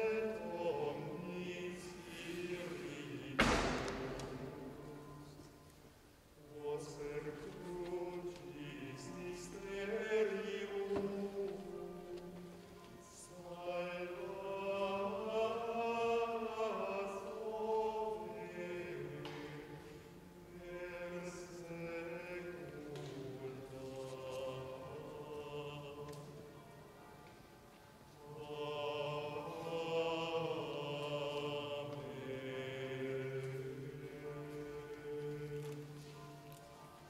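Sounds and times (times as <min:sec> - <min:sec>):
men singing a chant: 0:00.0 - 0:05.2, 0:06.5 - 0:11.9, 0:13.2 - 0:19.9, 0:20.5 - 0:26.2, 0:28.2 - 0:35.9.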